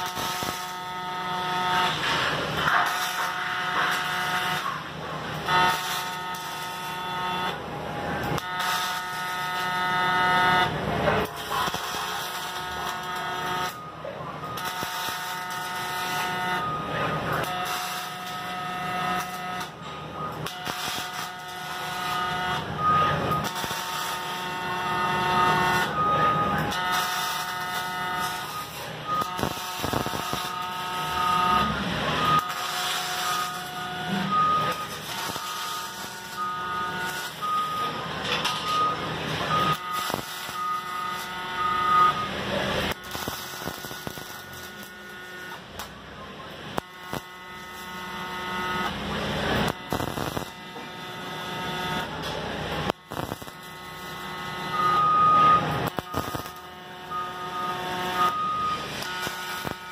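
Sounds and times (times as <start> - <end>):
welding crackling: 0.0 - 46.0, 46.6 - 59.9
welding arc buzzing: 0.0 - 59.9.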